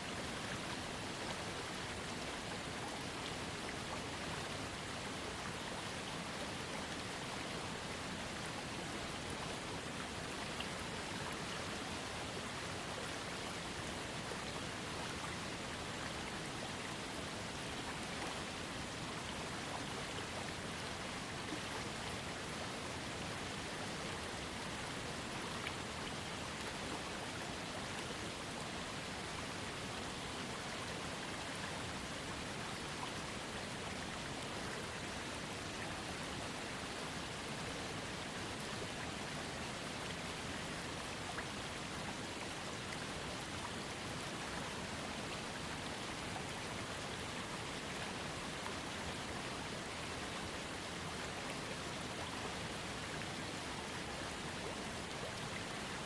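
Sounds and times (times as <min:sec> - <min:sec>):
small waterfall rushing: 0:00.0 - 0:56.0
trickling creek: 0:00.0 - 0:56.0.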